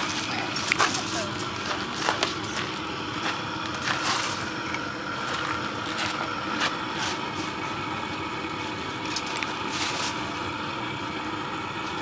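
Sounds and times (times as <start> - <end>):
propane burner roaring: 0.0 - 12.0.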